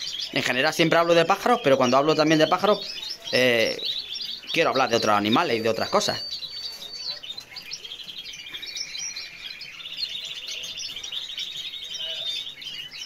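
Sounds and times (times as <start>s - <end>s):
bird chirps: 0.0s - 13.0s
canaries trilling: 0.0s - 13.0s.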